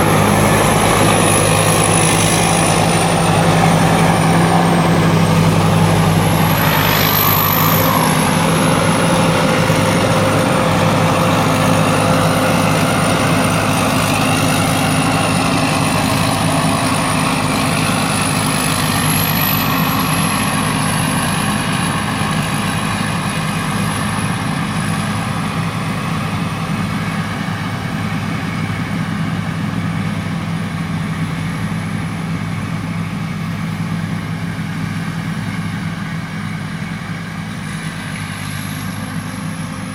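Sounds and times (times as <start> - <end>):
combine harvester engine hum: 0.0 - 39.9
high wavering whine: 0.0 - 39.9.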